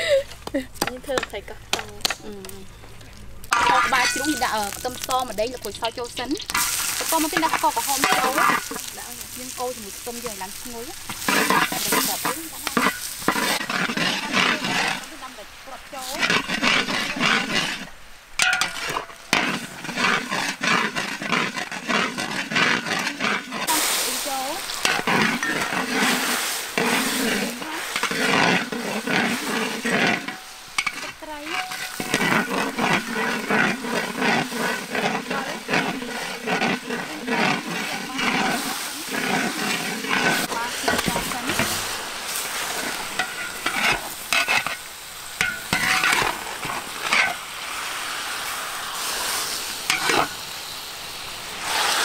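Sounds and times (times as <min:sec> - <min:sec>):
paste sizzling in oil: 0:00.0 - 0:52.0
metal spatula scraping wok: 0:03.5 - 0:52.0.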